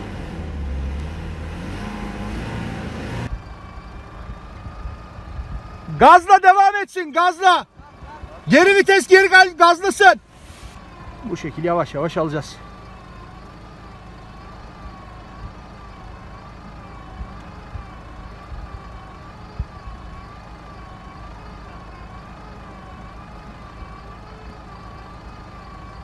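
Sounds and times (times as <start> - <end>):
truck engine whining at high revs: 0.0 - 26.0.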